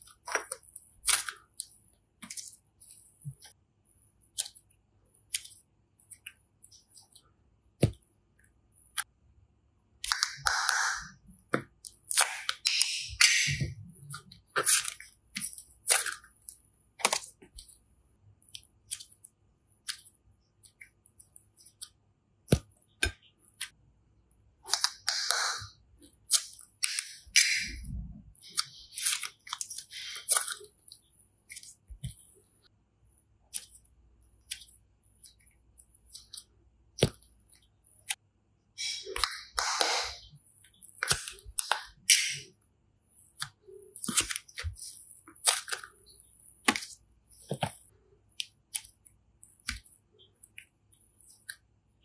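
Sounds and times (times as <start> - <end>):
hands squishing sticky slime: 0.0 - 9.2, 10.0 - 23.8, 24.4 - 38.2, 38.8 - 52.0.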